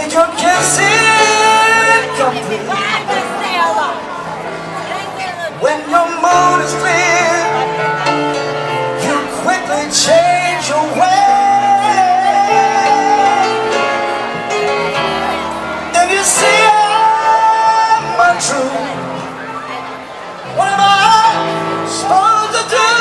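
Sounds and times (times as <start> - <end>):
lead singer singing: 0.0 - 23.0
live band playing: 0.0 - 23.0.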